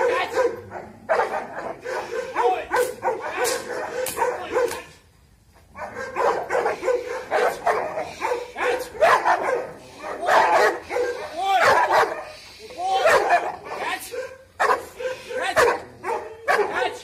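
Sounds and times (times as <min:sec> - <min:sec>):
dog barking: 0:00.0 - 0:04.9, 0:05.7 - 0:12.4, 0:13.0 - 0:17.0.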